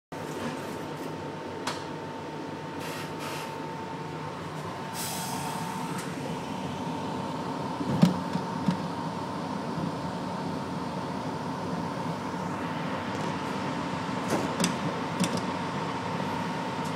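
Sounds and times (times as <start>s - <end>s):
subway car hum and rumble: 0.2s - 16.9s
thin steady whine: 2.3s - 16.9s.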